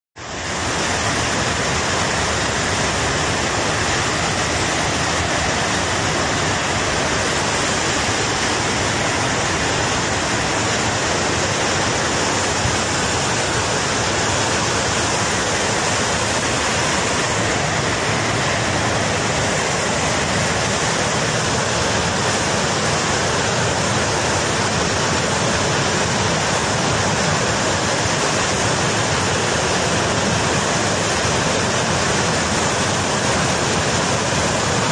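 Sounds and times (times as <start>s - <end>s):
flood water rushing: 0.2s - 34.9s.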